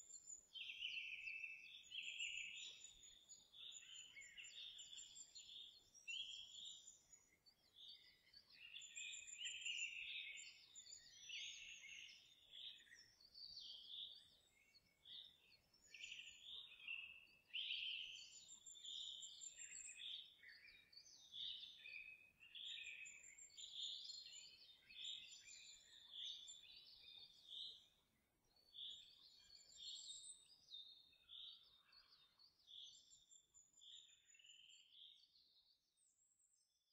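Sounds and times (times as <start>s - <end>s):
faint birdsong: 0.0s - 36.9s.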